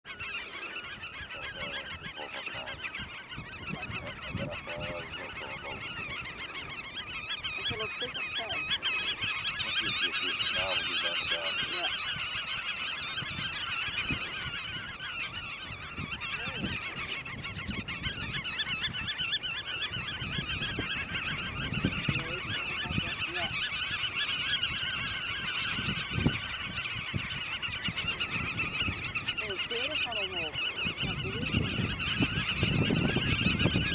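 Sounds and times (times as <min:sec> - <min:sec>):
flock of birds calling: 0:00.0 - 0:33.9.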